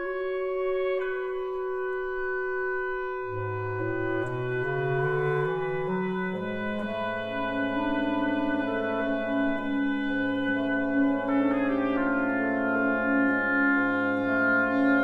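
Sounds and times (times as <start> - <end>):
reed quintet playing: 0.0 - 15.0.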